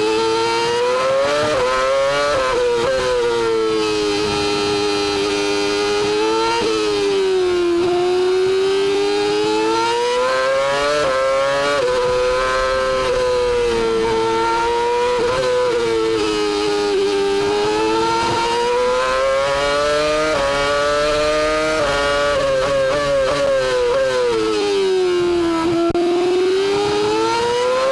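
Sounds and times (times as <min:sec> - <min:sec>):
racing engine at high revs: 0:00.0 - 0:27.9.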